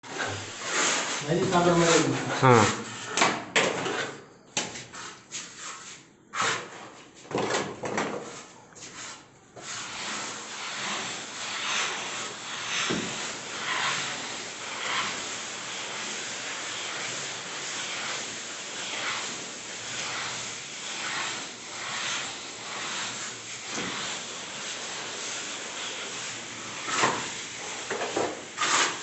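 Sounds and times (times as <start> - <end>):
plastering trowel scraping wall: 0.0 - 29.0.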